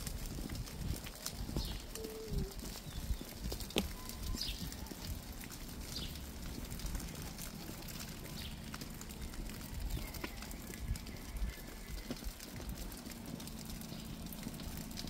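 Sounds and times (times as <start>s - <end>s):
footsteps: 0.0s - 14.9s
rain hissing: 0.0s - 15.0s.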